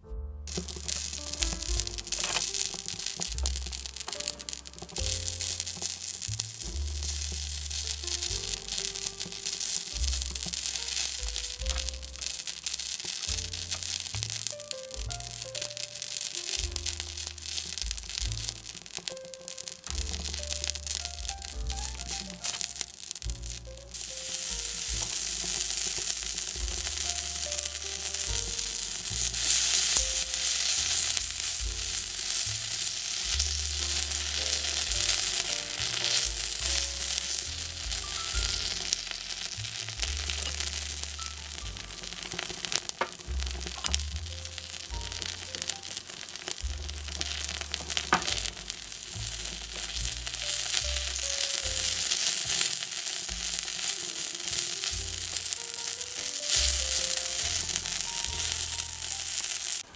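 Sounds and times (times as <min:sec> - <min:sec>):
background music with bass: 0:00.0 - 0:59.9
noodles sizzling in a frying pan: 0:00.5 - 0:59.9.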